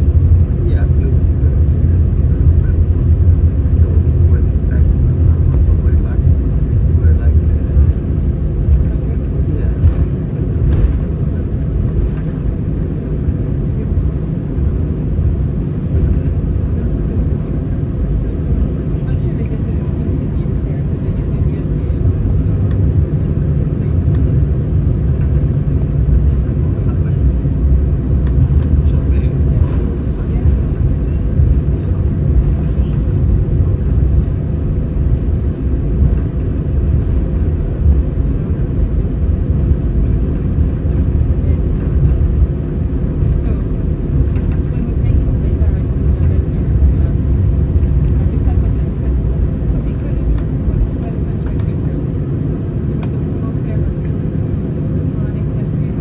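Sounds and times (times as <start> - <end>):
jet engines idling in cabin: 0.0 - 56.0.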